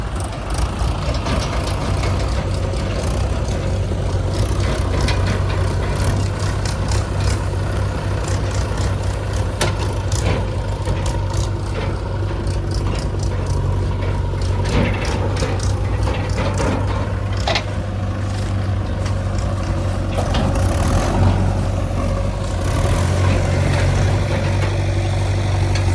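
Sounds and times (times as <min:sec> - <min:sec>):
heavy diesel engine humming: 0:00.0 - 0:25.9
rattles and clicks: 0:00.0 - 0:25.9.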